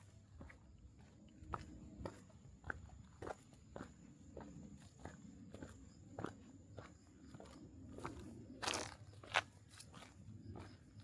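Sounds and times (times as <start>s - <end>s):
footsteps on a path: 0.0s - 11.0s.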